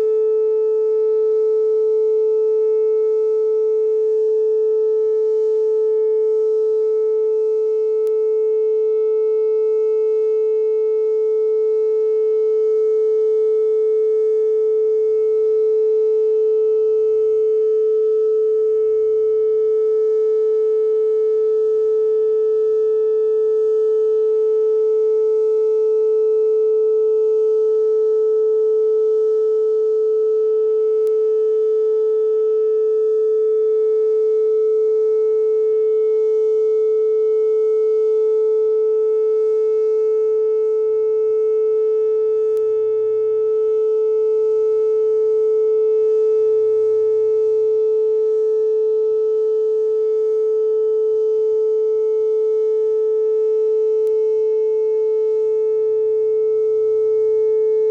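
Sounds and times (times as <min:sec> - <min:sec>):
outdoor warning siren steady tone: 0:00.0 - 0:57.9.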